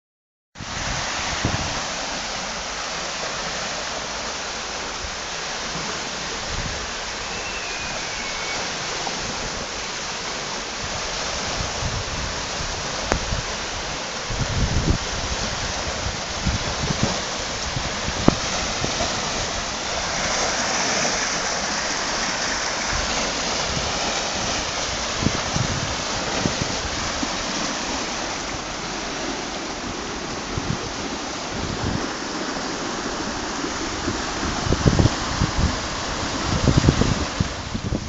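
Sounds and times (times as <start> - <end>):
floodwater rushing: 0.6 - 38.0.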